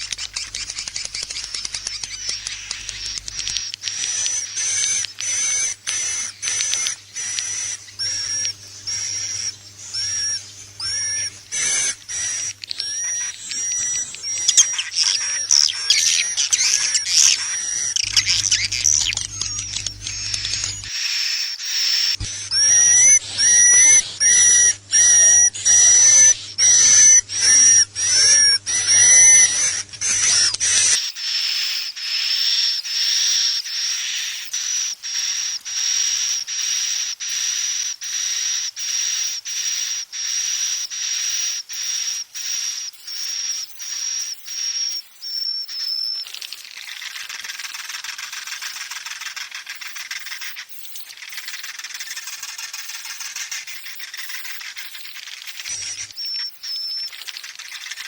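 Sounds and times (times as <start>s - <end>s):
high twittering chirps: 0.0s - 58.0s
high whistled bird chirps: 0.0s - 58.0s.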